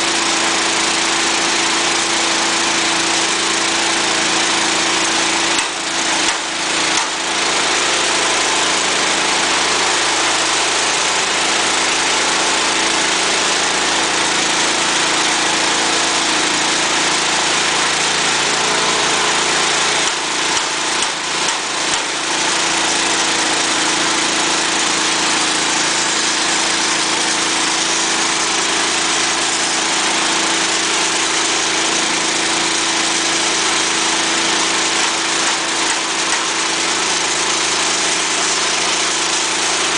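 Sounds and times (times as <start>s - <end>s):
petrol engine running: 0.1s - 39.9s.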